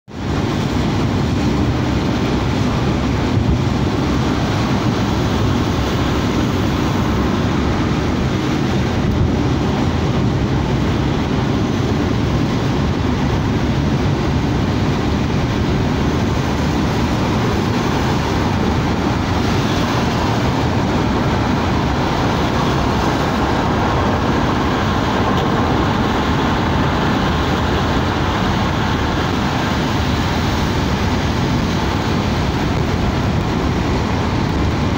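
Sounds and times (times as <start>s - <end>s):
rain on windscreen: 0.1s - 34.9s
tyres on wet road: 0.1s - 34.9s.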